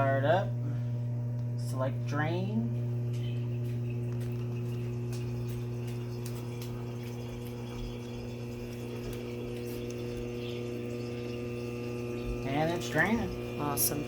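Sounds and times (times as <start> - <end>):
drain pump motor humming: 0.0 - 14.0.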